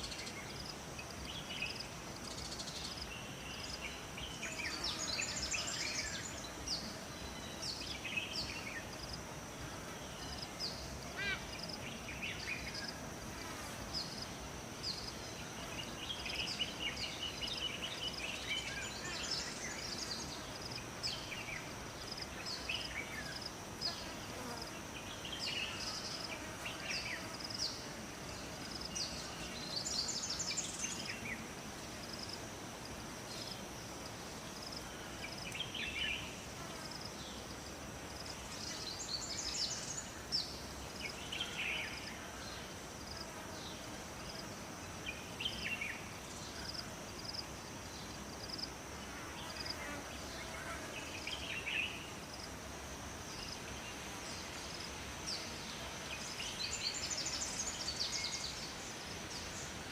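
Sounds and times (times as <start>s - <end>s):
songbirds singing: 0.0s - 32.2s, 34.6s - 37.5s, 38.2s - 52.2s, 53.3s - 59.9s
high insect drone: 0.0s - 59.9s
low hiss: 0.0s - 59.9s.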